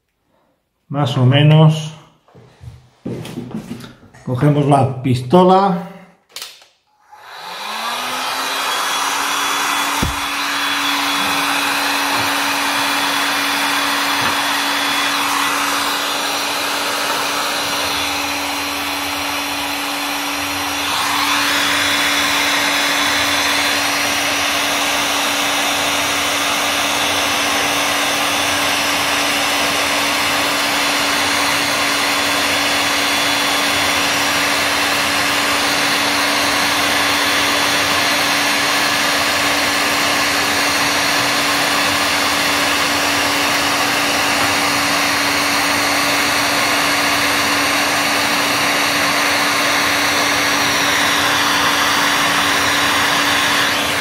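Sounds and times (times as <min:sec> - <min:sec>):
heat gun blowing air: 0:06.9 - 0:54.0.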